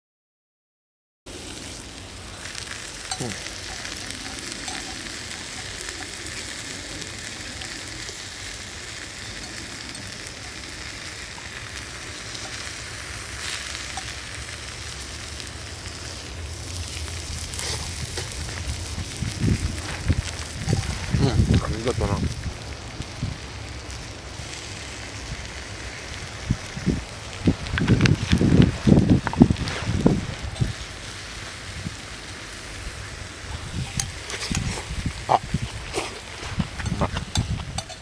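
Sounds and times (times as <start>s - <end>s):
food sizzling in a pan: 1.3s - 38.0s.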